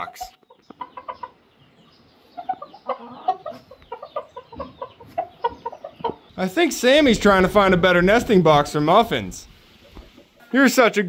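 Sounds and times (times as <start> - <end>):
chickens clucking softly: 0.0 - 10.6.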